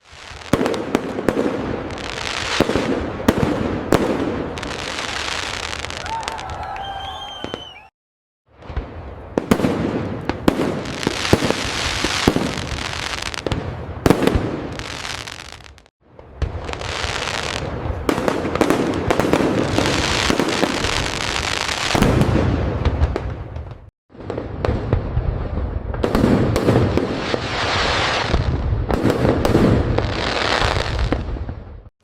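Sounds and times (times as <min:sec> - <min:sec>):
fireworks crackling and popping: 0:00.0 - 0:07.9, 0:08.5 - 0:31.9.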